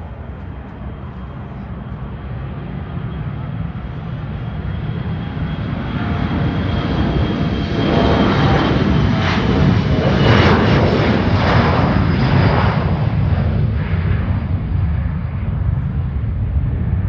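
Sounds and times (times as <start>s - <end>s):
jet airliner engines passing: 0.0s - 17.0s.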